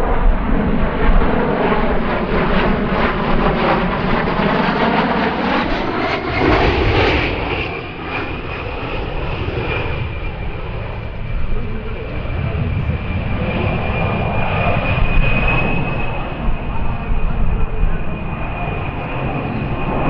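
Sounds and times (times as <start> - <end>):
jet flying past: 0.0 - 20.0.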